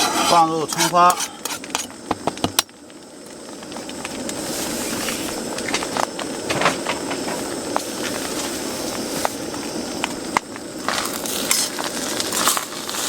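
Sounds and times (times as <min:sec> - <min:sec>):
rice sizzling in a pan: 0:00.0 - 0:13.0.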